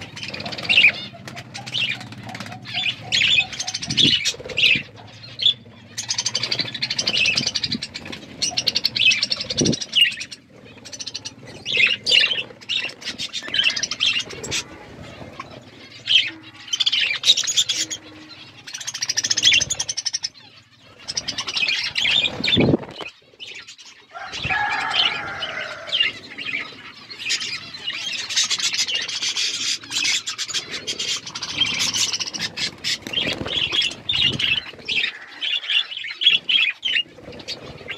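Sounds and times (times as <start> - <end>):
budgerigars chirping: 0.0 - 37.9.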